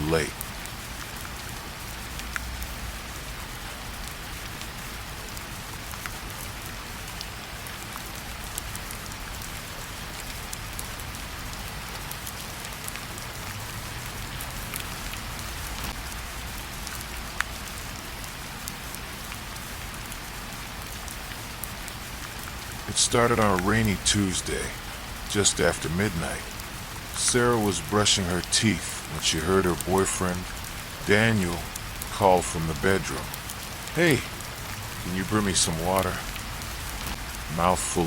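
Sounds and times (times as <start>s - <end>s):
steady rain patter: 0.0s - 38.0s.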